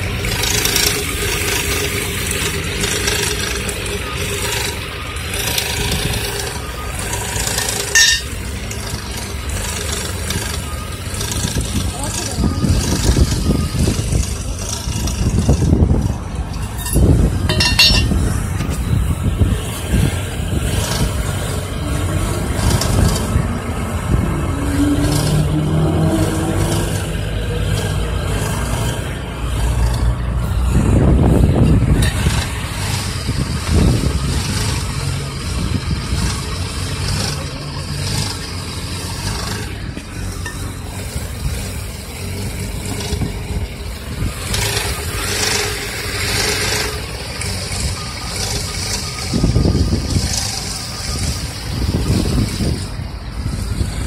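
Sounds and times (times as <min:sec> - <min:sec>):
engine revving: 0:00.0 - 0:54.0
metallic engine rattle: 0:00.0 - 0:54.0.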